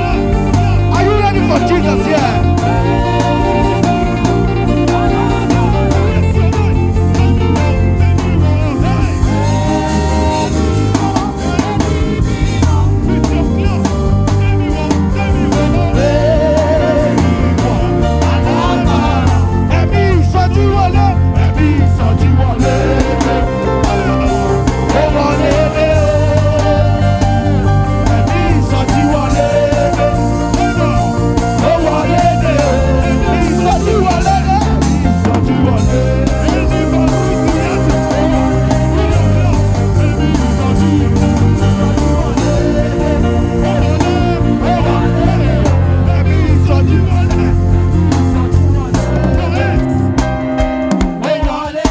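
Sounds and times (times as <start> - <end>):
live band playing: 0.0 - 51.9
person singing: 0.0 - 51.9.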